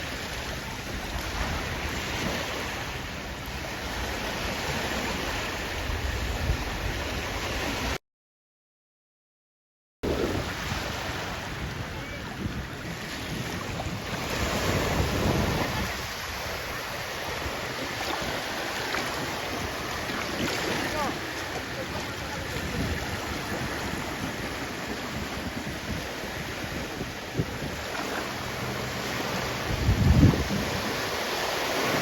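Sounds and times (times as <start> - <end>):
sea waves breaking on shore: 0.0 - 8.0, 10.0 - 32.0.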